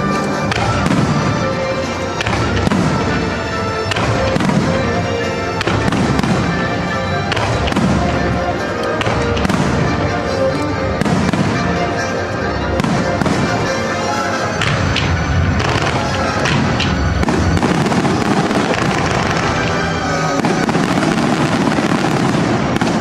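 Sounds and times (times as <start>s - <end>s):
fireworks bangs and crackle: 0.0s - 23.0s
music soundtrack: 0.0s - 23.0s.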